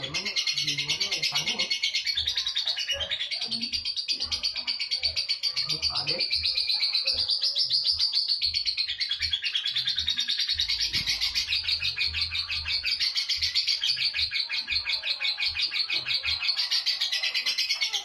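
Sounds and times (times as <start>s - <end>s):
lovebird high-pitched chatter: 0.0s - 18.0s.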